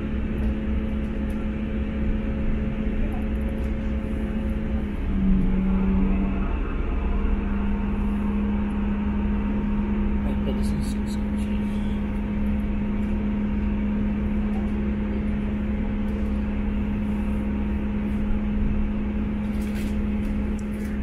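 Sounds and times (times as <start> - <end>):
diesel engine droning hum: 0.0 - 21.0
wheels rumbling on track: 0.0 - 21.0.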